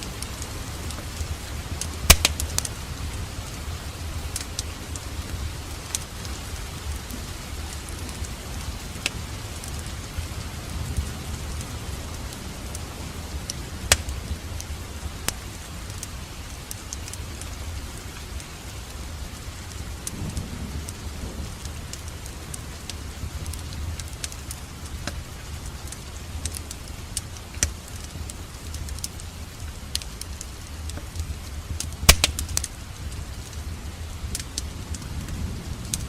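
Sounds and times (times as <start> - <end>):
fire popping: 0.0 - 10.3, 12.3 - 18.5, 19.6 - 36.0
fire hissing and rumbling: 0.0 - 36.0.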